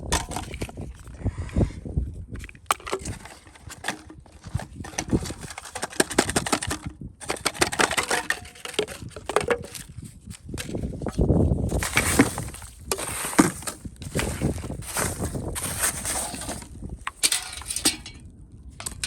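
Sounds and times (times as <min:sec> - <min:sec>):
hand tools clicking and scraping: 0:02.4 - 0:18.2, 0:18.8 - 0:19.0.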